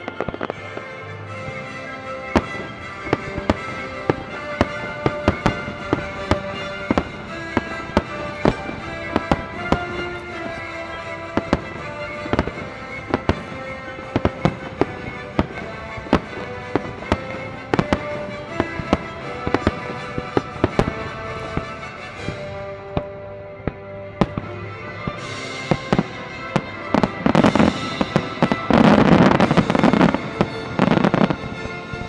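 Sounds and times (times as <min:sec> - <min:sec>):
fireworks bursting: 0:00.0 - 0:32.0
music with sustained notes: 0:00.0 - 0:32.0.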